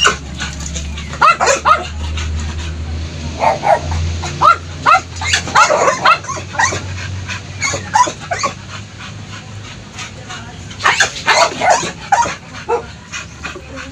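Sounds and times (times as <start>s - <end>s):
dogs yipping and barking: 0.0s - 13.9s.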